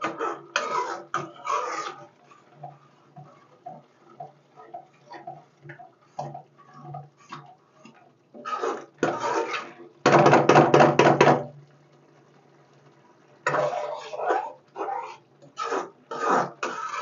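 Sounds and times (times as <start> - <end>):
metal spoon stirring thick gravy: 0.0 - 10.2, 13.4 - 17.0.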